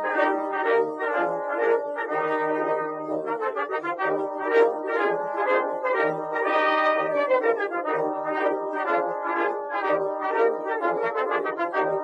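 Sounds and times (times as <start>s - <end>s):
brass music with steady beat: 0.0s - 12.0s.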